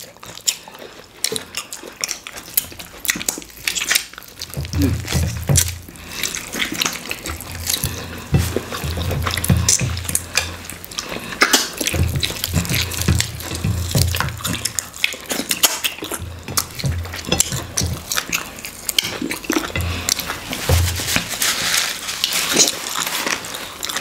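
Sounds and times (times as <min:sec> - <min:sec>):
chewing and lip smacks: 0:00.0 - 0:20.6.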